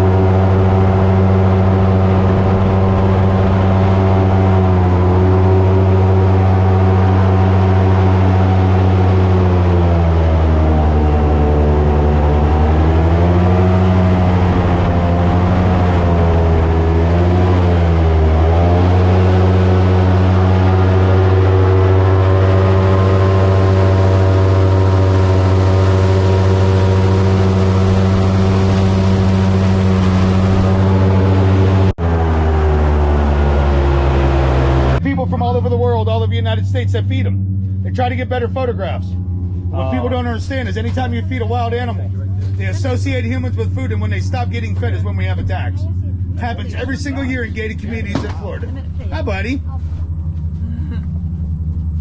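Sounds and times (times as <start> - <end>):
boat engine and propeller running: 0.0 - 52.0.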